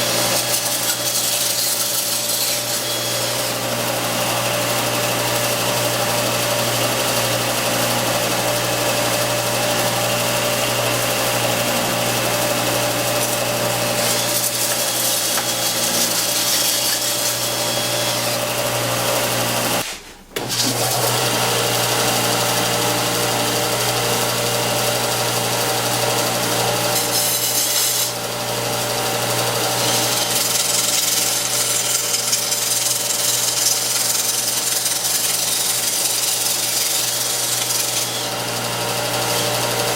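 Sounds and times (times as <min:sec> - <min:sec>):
belt sander running: 0:00.0 - 0:39.9.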